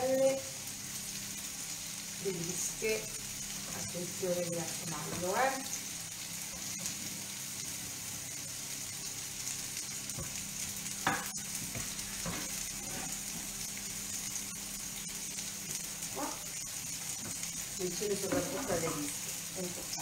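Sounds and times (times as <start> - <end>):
vegetables sizzling in skillet: 0.0 - 20.0.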